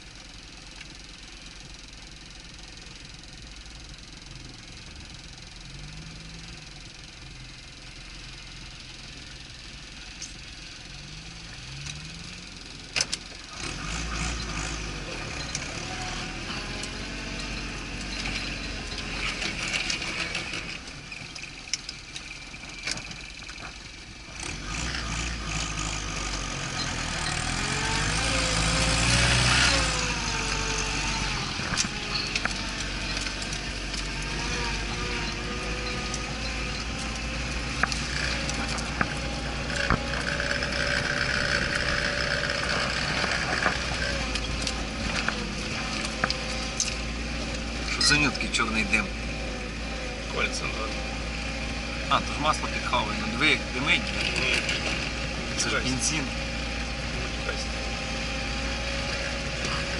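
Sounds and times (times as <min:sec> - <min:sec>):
off-road vehicle engine running: 0:00.0 - 0:59.9.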